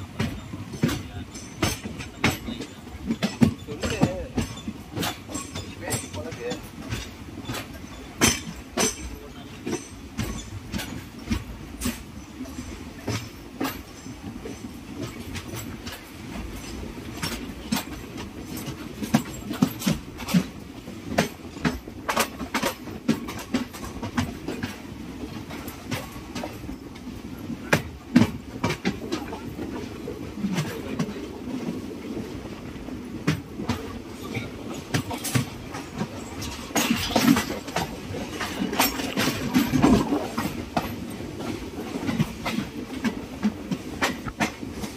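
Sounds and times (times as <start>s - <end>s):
train rumbling on track: 0.0s - 44.9s
wheels clattering over rail joints: 0.0s - 44.9s.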